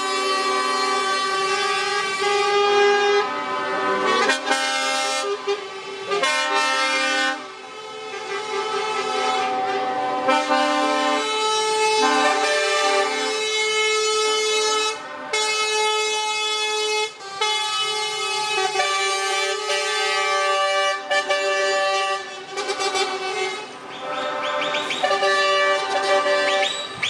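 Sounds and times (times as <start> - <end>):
truck air horns blaring: 0.0 - 27.0.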